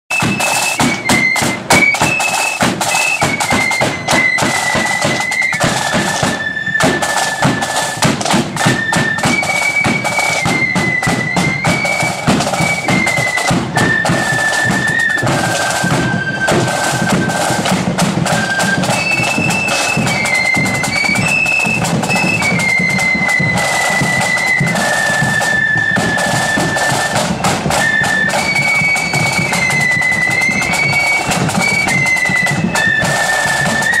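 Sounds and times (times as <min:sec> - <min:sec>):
flutes playing tune: 0:00.1 - 0:34.0
snare drumming: 0:00.1 - 0:34.0.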